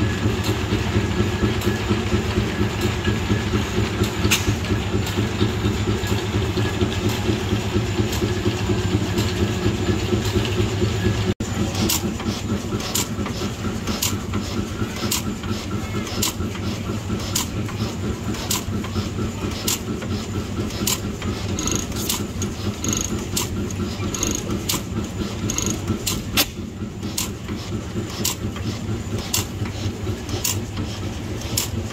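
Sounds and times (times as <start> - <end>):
line-shaft machinery clattering: 0.0 - 31.9
stationary engine running slowly: 0.0 - 31.9.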